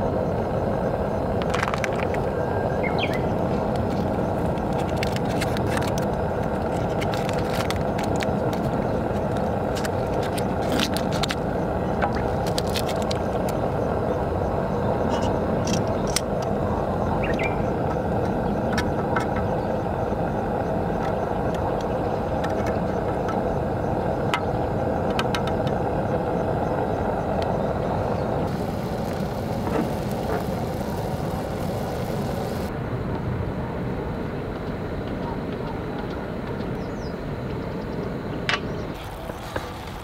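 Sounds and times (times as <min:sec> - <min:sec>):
burner flame roaring: 0:00.0 - 0:33.0, 0:38.9 - 0:40.0.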